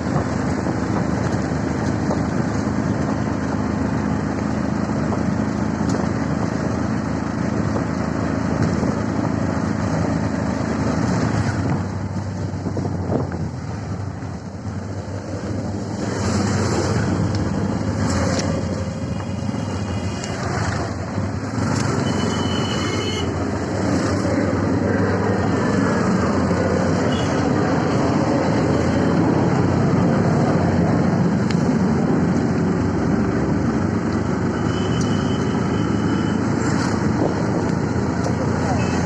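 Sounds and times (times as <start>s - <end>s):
auto-rickshaw engine and road noise: 0.0s - 39.0s
wind: 0.0s - 39.0s.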